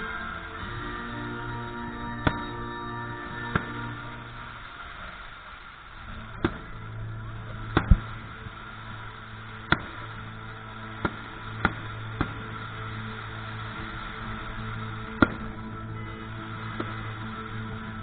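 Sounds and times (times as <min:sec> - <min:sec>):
fireworks bangs: 0:00.0 - 0:18.0
steady low hum: 0:00.0 - 0:18.0.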